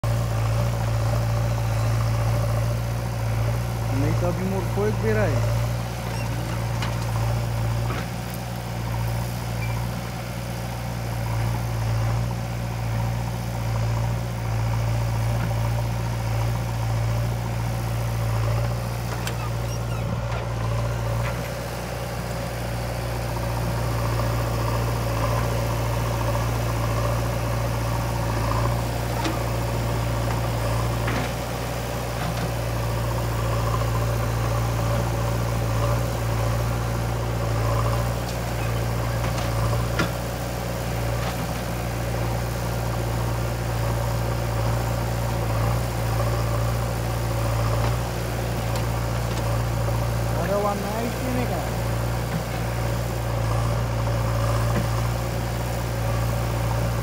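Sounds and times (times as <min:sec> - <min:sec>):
diesel engines throbbing: 0:00.0 - 0:09.6, 0:10.3 - 0:57.0.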